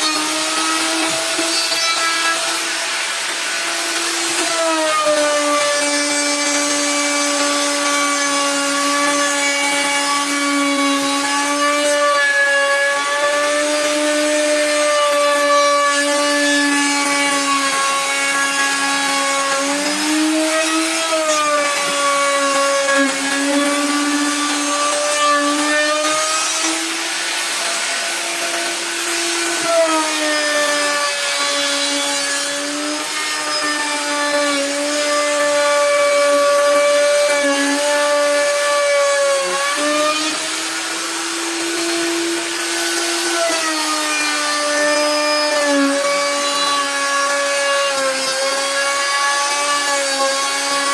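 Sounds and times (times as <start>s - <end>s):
power tool cutting wood: 0.0s - 50.9s.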